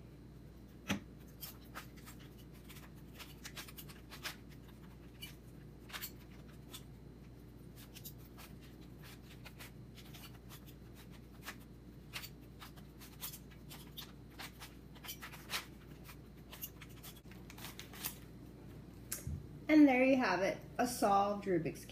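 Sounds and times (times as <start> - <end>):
faint low hum: 0.0 - 21.9.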